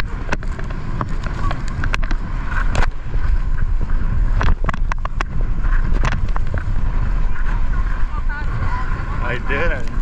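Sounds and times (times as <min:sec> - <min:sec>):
heavy low rumble: 0:00.0 - 0:10.0
wind rushing over microphone: 0:00.0 - 0:10.0.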